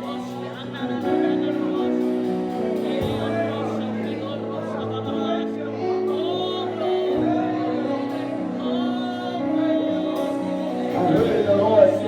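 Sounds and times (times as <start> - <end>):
sustained instrumental chords: 0.0 - 12.0
voices singing slow melody: 0.0 - 12.0.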